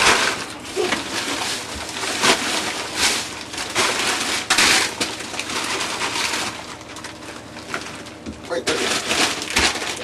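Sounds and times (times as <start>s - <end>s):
rummaging through frozen food packages: 0.0s - 10.0s.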